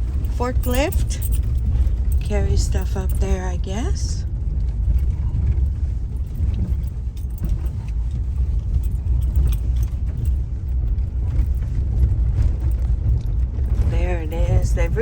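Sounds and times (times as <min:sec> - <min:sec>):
light rattles: 0:00.0 - 0:15.0
truck engine and tyres rumbling: 0:00.0 - 0:15.0.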